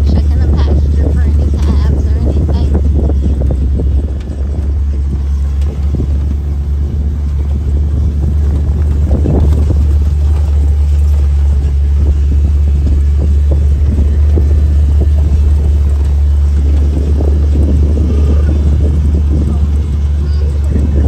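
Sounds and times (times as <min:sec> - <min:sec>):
rattle: 0:00.0 - 0:21.0
vehicle engine running: 0:00.0 - 0:21.0.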